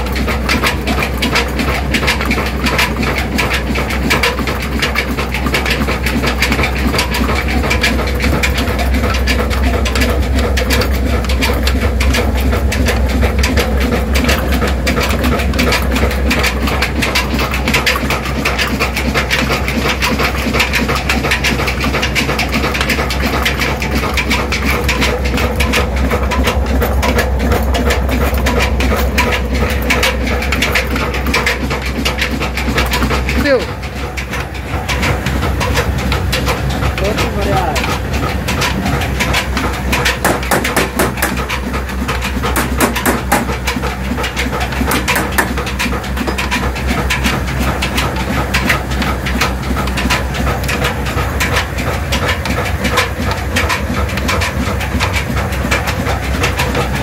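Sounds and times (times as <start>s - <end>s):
flour mill engine clattering: 0.0s - 57.0s.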